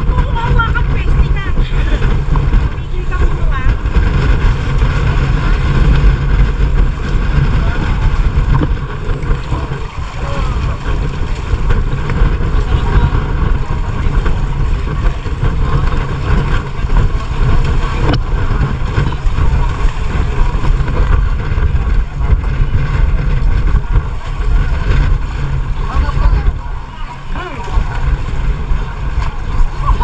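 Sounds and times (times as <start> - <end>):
boat engine running: 0.0 - 30.0
wind buffeting microphone: 0.0 - 30.0.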